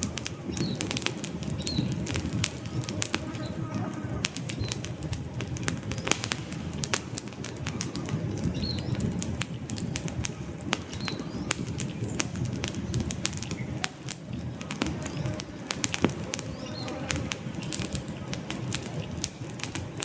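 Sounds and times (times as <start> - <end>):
logs crackling and popping: 0.0 - 20.0
low rush of flame: 0.0 - 20.0.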